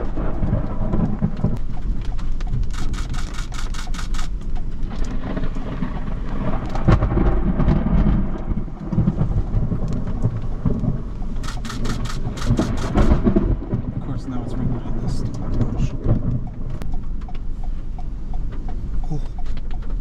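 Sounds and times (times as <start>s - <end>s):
thunder rumbling: 0.0s - 19.1s
raindrops tapping on a vehicle: 0.1s - 20.0s.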